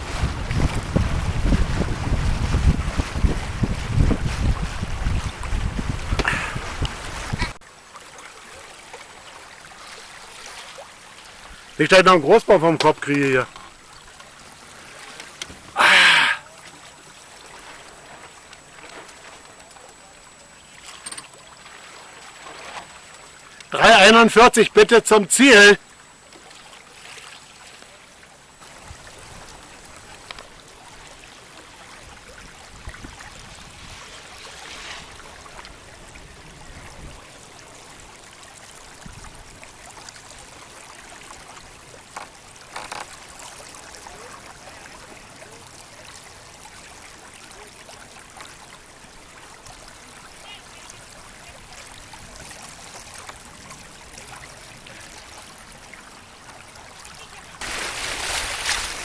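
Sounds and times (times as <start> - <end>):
lake water lapping: 0.0 - 59.0.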